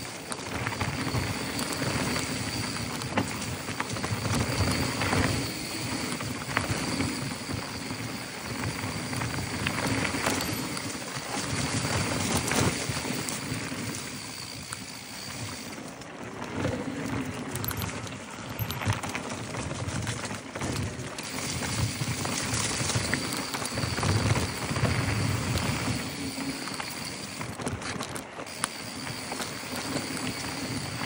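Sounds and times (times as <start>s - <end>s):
bike tyres crunching over dirt: 0.0s - 31.0s.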